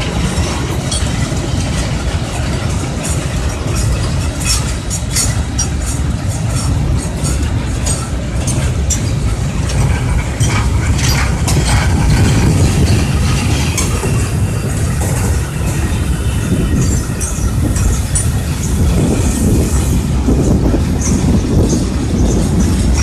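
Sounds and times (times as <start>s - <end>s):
clanks over rail joints: 0.0s - 23.0s
train wheels rumbling on rail: 0.0s - 23.0s.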